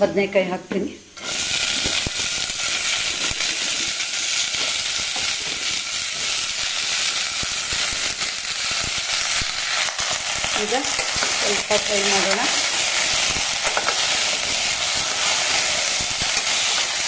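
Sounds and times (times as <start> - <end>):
vegetables sizzling in oil: 0.8 - 17.0.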